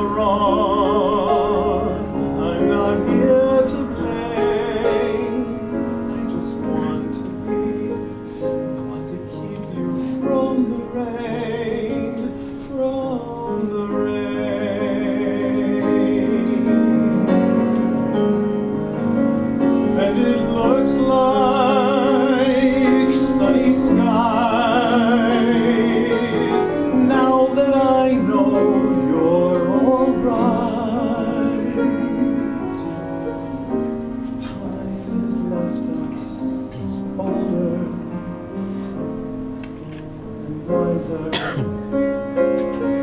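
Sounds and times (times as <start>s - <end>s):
sustained accompaniment chords: 0.0s - 43.0s
wordless melody with vibrato: 0.0s - 43.0s.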